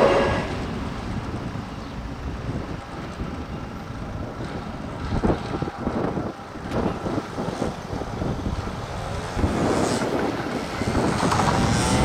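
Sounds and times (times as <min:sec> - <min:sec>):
train rumbling over crossing: 0:00.0 - 0:12.0
wind buffeting microphone: 0:00.0 - 0:12.0.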